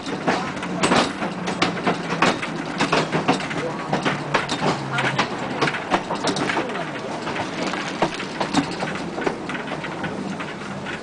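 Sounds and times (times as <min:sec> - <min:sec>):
railway carriage rattling on track: 0:00.0 - 0:11.0.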